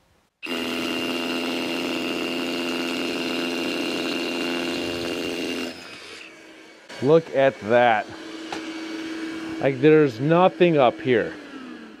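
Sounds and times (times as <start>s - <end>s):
rotary hammer drilling concrete: 0.4s - 12.0s.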